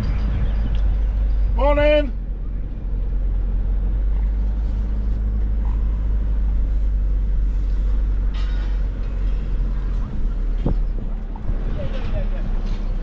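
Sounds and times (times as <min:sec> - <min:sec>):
engine rumble: 0:00.0 - 0:13.0.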